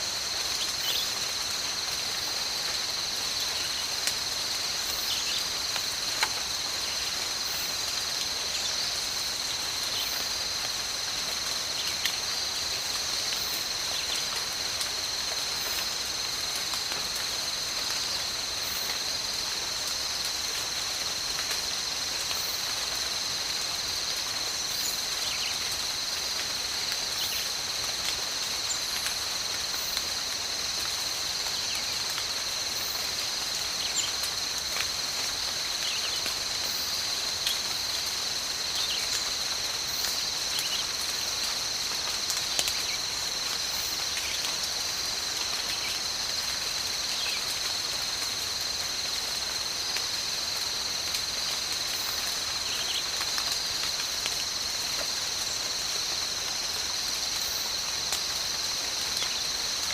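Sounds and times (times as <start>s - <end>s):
insect chorus droning: 0.0s - 59.9s
steady rain: 0.0s - 59.9s.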